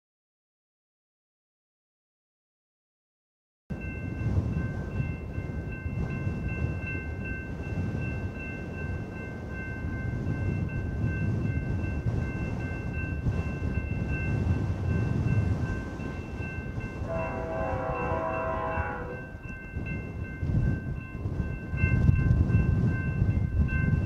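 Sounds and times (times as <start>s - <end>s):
freight train rumble: 3.7s - 24.0s
railroad crossing bell ringing: 3.7s - 24.0s.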